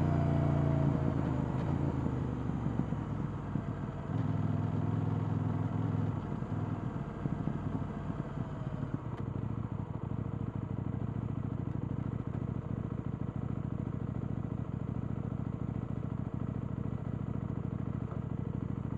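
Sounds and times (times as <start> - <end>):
motorcycle engine idling: 1.3 - 18.9.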